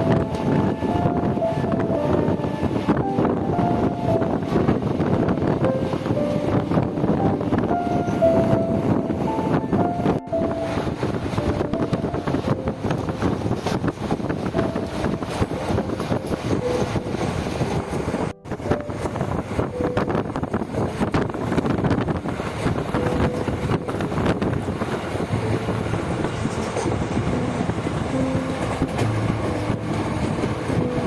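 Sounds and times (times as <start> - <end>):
passenger train rumbling and clattering: 0.0 - 31.0
wind buffeting microphone: 0.0 - 31.0.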